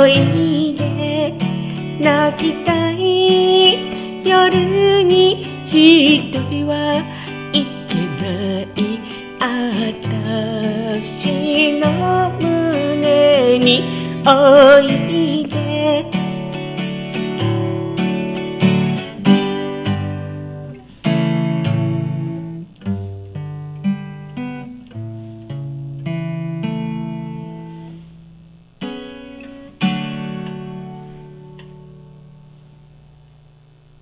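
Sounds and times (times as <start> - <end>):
solo guitar playing: 0.0 - 33.2.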